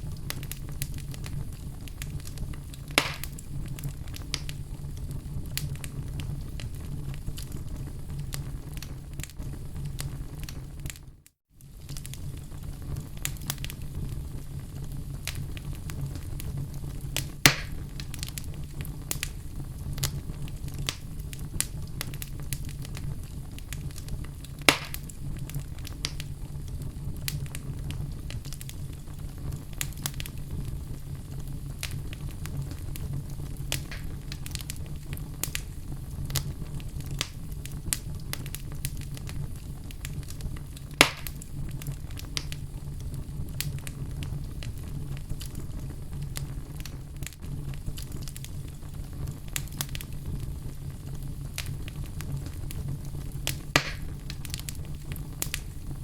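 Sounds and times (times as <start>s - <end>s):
fire crackling in fireplace: 0.0s - 56.0s
sharp fire pops: 0.0s - 56.0s.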